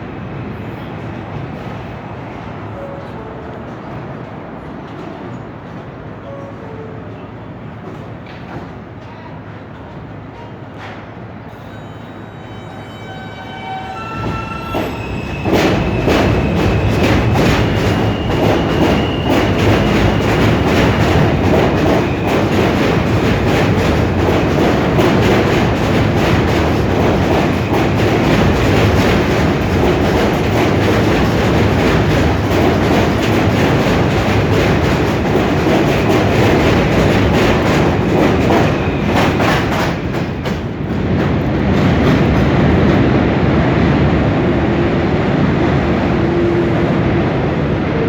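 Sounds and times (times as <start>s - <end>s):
subway train wheels clattering: 0.0s - 48.0s.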